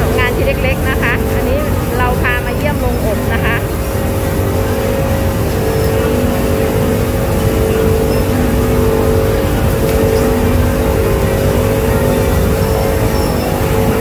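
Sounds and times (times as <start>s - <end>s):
machinery rumbling and humming: 0.0s - 14.0s.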